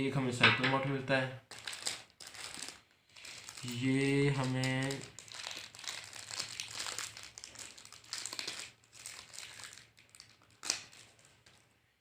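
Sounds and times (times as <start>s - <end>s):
plastic packaging crinkling: 1.5s - 11.8s.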